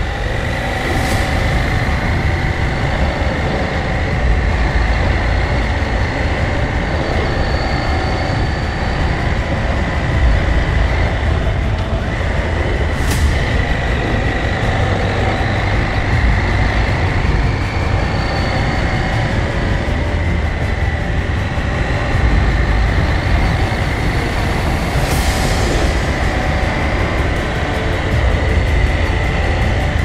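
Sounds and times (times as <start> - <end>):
wind rushing: 0.0 - 30.0.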